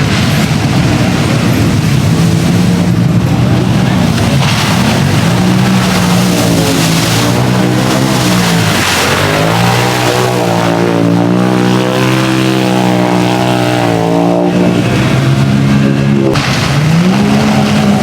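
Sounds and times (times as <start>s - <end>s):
off-road vehicle engine revving: 0.0s - 18.0s
other engine note: 0.0s - 18.0s.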